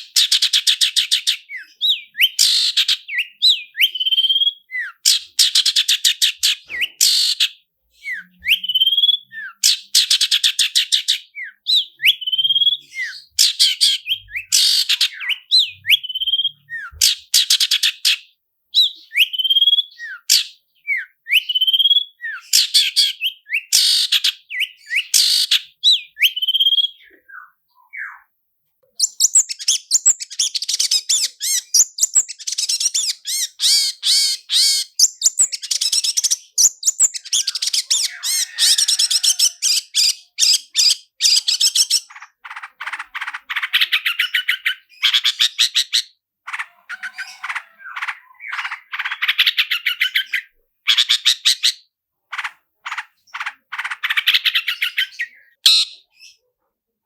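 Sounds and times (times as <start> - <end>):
bird singing with fast trill: 0.0 - 28.3, 29.0 - 56.5.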